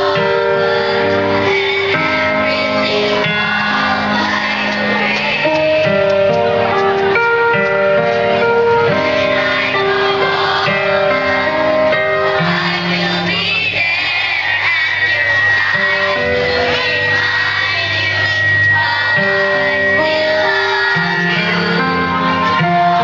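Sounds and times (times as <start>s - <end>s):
children's choir singing: 0.0s - 23.0s
steady high tone: 0.0s - 23.0s.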